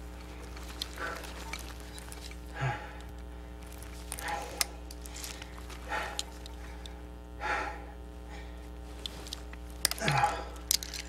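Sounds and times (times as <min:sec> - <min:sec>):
low hum: 0:00.0 - 0:11.0
person breathing heavily: 0:00.1 - 0:11.0.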